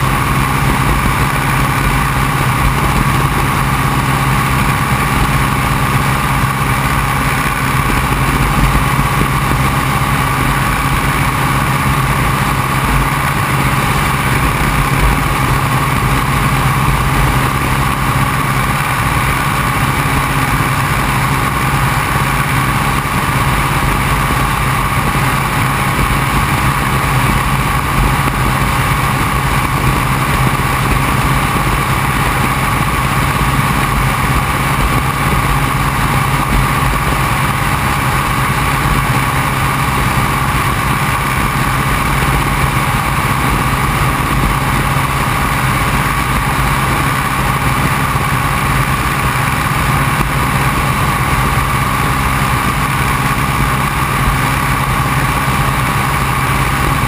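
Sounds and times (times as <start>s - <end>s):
biplane engine and propeller drone: 0.0s - 57.0s
rushing wind: 0.0s - 57.0s.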